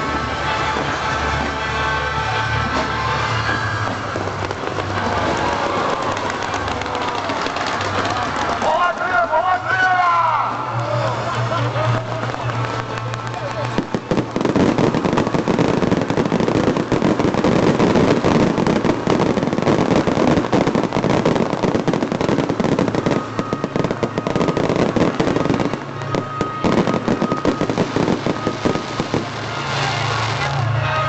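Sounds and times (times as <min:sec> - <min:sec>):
fireworks crackling: 0:00.0 - 0:31.0.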